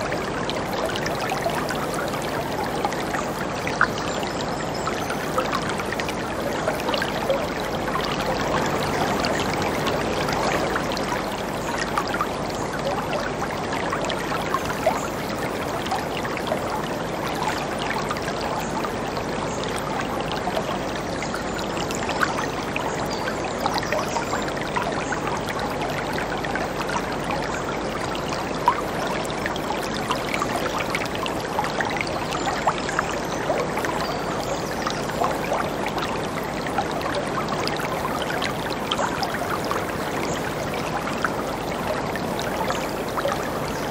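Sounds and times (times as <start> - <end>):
water splashes: 0.0 - 43.9.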